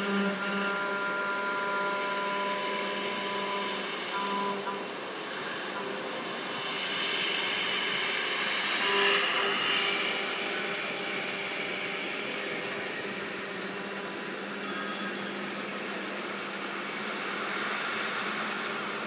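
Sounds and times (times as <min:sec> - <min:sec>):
machine hum with hiss: 0:00.0 - 0:19.0.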